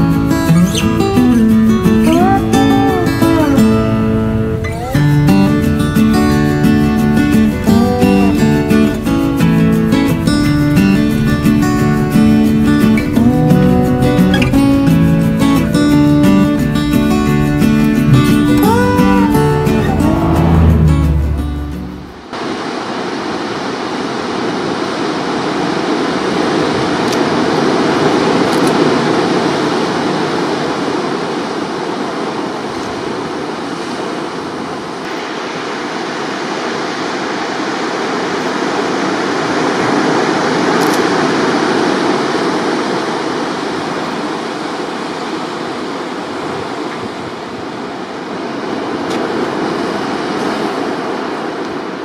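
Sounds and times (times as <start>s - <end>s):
ocean surf breaking on rocks: 0.0s - 52.0s.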